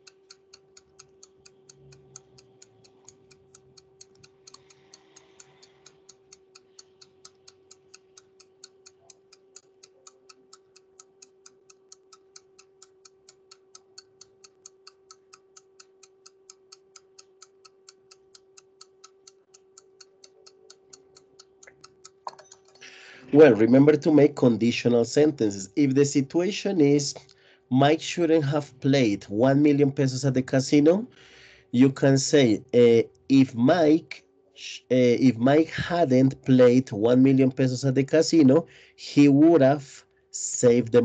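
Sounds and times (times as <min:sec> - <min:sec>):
timer ticking fast: 0:00.0 - 0:34.2, 0:34.9 - 0:41.0
faint steady hum: 0:00.0 - 0:41.0.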